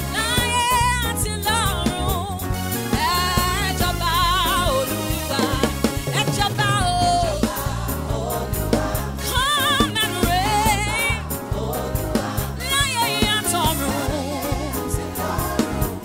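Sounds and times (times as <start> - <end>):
woman singing with vibrato: 0.0 - 2.4, 3.0 - 8.5, 9.2 - 11.8, 12.4 - 15.0
band with drum kit: 0.0 - 16.0.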